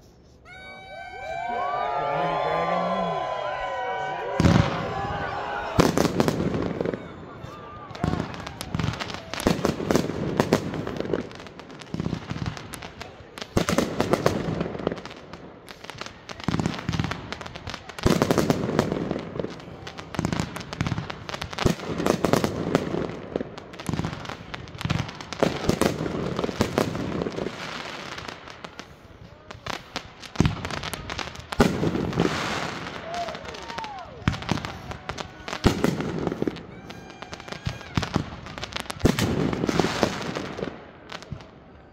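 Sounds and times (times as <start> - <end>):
fireworks bangs: 1.2 - 41.8.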